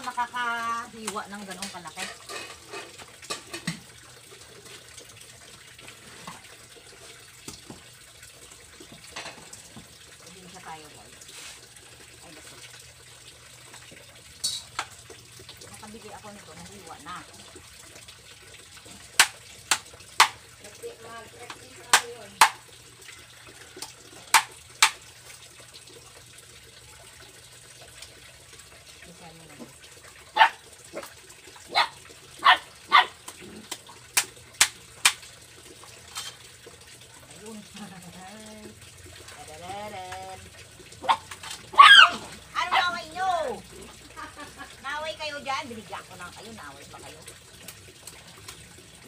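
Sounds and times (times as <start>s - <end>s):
water trickling in a basin: 0.0s - 49.0s.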